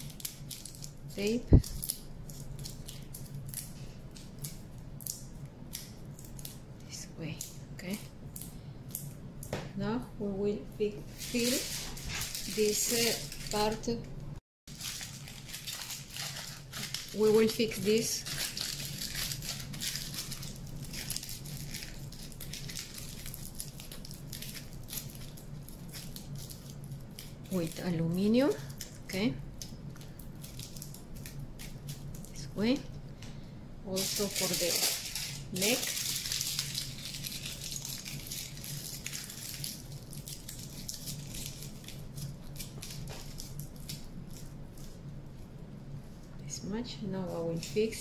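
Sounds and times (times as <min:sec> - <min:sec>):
aluminium foil crinkling: 0:00.0 - 0:09.2, 0:10.8 - 0:14.1, 0:14.7 - 0:46.3
steady low hum: 0:00.0 - 0:48.0.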